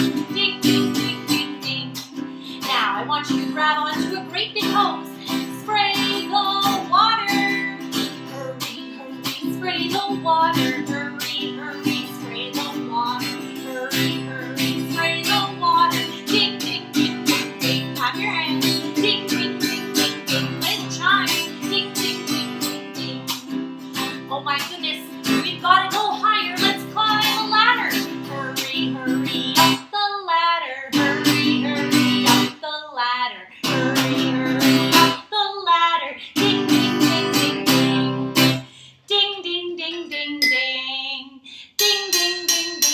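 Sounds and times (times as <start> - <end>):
acoustic guitar strumming: 0.0 - 29.8, 31.0 - 32.6, 33.6 - 35.2, 36.4 - 38.7, 41.8 - 42.9
woman singing: 0.0 - 42.4.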